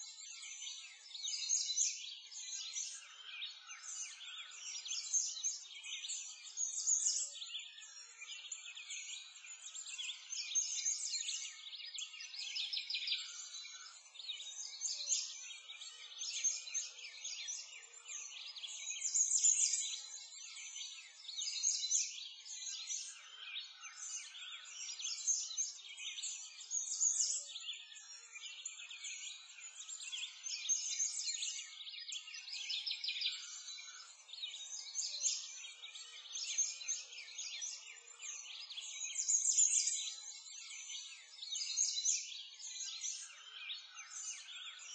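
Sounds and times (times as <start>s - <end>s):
small birds chirping chorus: 0.0s - 44.9s.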